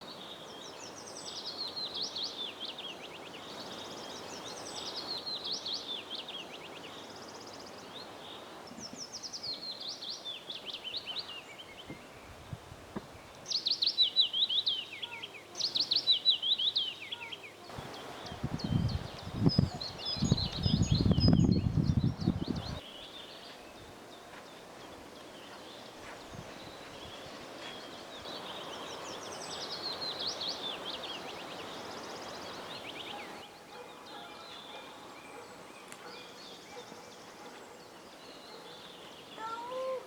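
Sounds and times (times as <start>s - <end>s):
outdoor background hiss: 0.0s - 40.0s
songbird singing: 0.0s - 40.0s.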